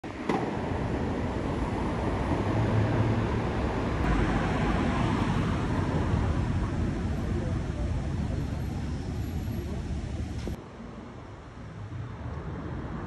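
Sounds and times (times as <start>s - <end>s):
passing cars rumble: 0.1s - 13.0s.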